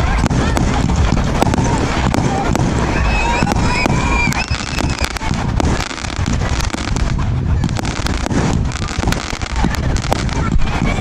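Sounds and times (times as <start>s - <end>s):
fireworks firing shots and bursts: 0.0s - 11.0s
low rumble: 0.0s - 11.0s.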